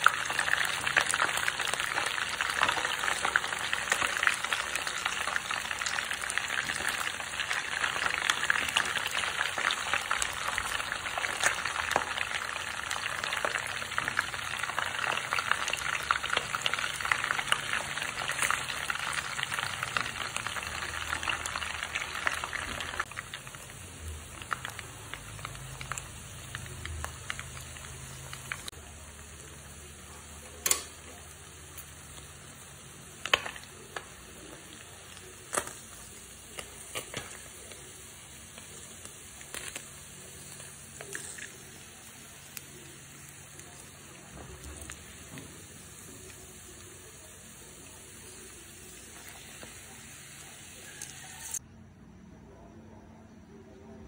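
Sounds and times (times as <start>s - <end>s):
fish frying in oil: 0.0s - 51.6s.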